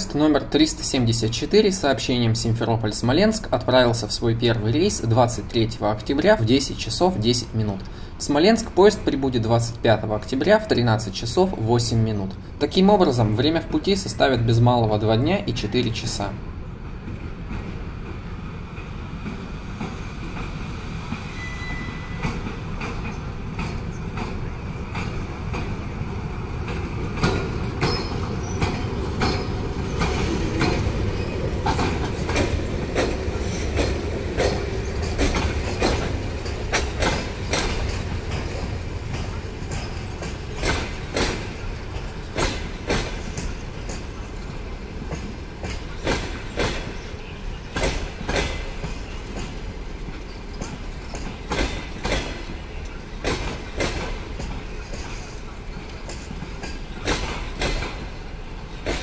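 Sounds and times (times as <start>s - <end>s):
passenger train rumbling past: 0.0s - 59.0s
wheels clacking over rail joints: 0.0s - 59.0s.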